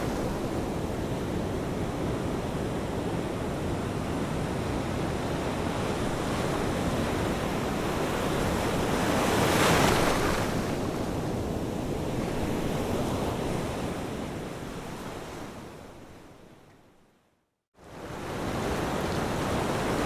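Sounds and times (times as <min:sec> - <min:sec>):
ocean waves washing on shore: 0:00.0 - 0:14.6, 0:17.9 - 0:20.0.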